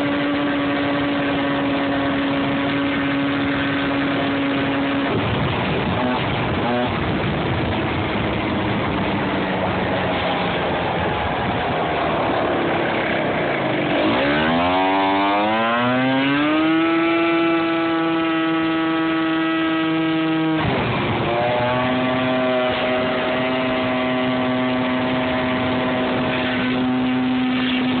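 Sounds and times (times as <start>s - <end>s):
moped engine running: 0.0s - 28.0s
wind rushing over microphone: 0.0s - 28.0s.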